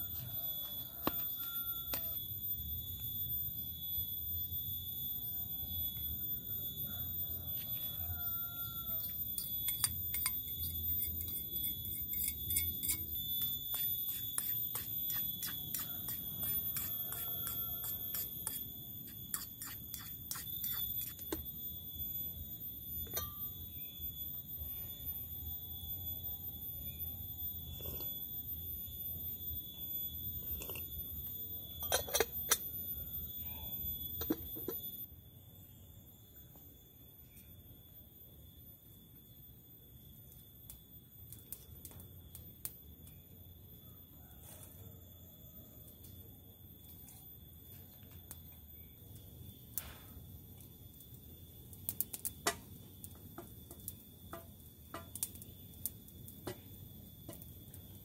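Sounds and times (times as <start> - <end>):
steady high-pitched whine: 0.0 - 58.0.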